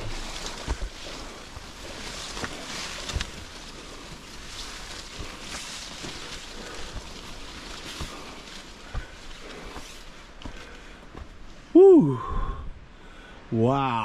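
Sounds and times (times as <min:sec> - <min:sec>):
footsteps on dirt trail: 0:00.0 - 0:11.8.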